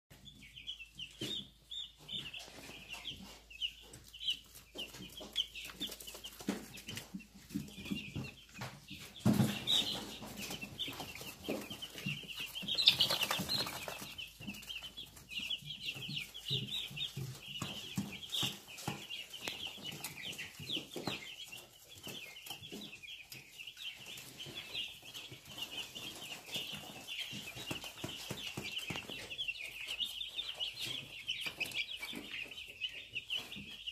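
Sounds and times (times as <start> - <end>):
baby chicks peeping: 0.1 - 33.9.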